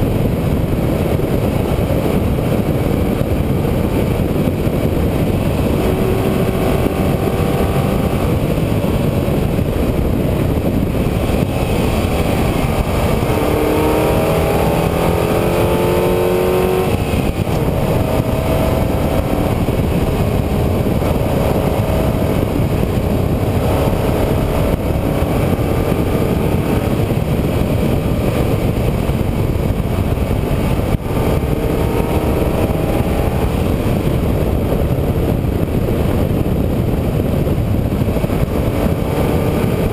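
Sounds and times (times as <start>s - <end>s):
loud steady rushing noise: 0.0s - 39.9s
vehicle engine accelerating: 0.0s - 39.9s.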